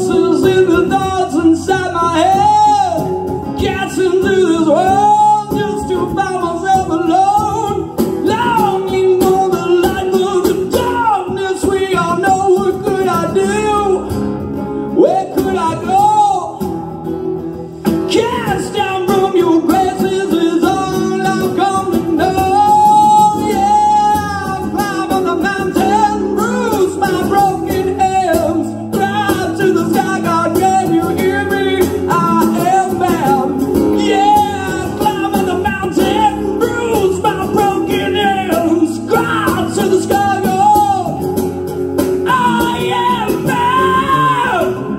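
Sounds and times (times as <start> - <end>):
man singing into a microphone: 0.0 - 16.8, 17.8 - 44.9
acoustic guitar accompaniment: 0.0 - 44.9.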